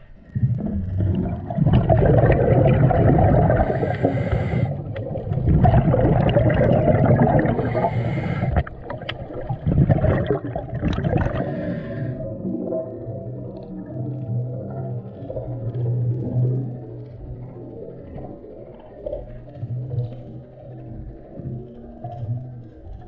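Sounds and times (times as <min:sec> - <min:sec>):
bubbling churning water: 0:00.2 - 0:21.6.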